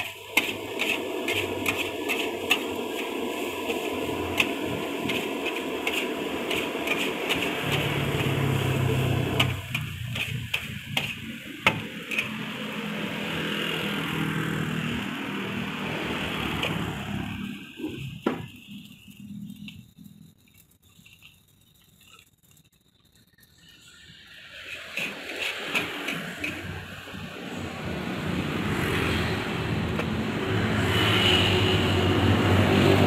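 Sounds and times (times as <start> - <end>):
metal spatula scraping a wok: 0.0 - 22.6, 23.6 - 32.4
rice sizzling in a wok: 0.0 - 33.0.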